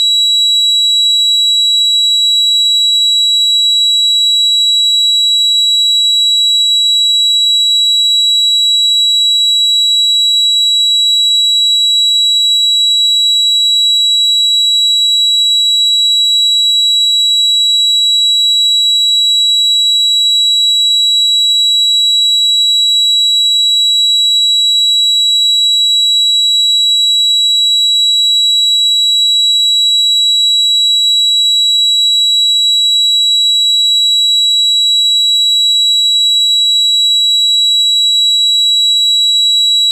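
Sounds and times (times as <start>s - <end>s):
high-pitched ringing tone: 0.0s - 39.9s.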